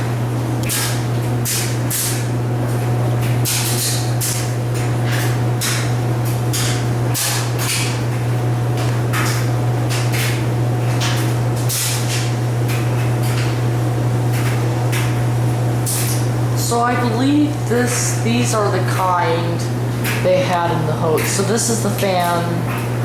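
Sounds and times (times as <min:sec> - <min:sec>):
ceiling fan humming: 0:00.0 - 0:23.0.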